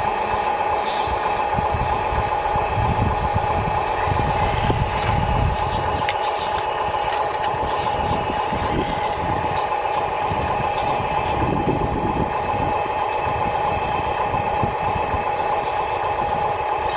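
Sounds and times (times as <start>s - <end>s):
excavator high whine: 0.0s - 16.9s
excavator low rumble: 0.0s - 16.9s.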